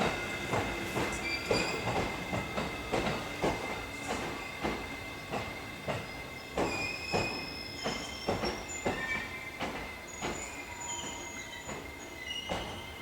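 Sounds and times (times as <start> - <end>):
train wheels knocking over rail joints: 0.0 - 11.9.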